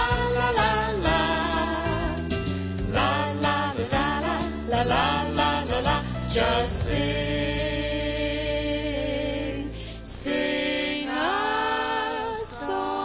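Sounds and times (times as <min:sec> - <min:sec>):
singers holding long notes: 0:00.0 - 0:13.0.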